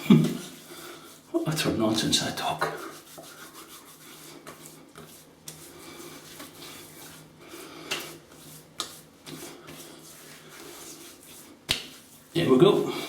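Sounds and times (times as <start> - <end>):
hands rubbing skin: 0.0 - 13.0.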